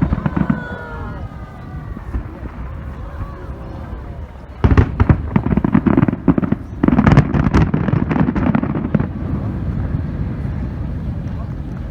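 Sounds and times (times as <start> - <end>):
fireworks bangs and crackles: 0.0 - 11.9
rolling rumble: 0.0 - 11.9.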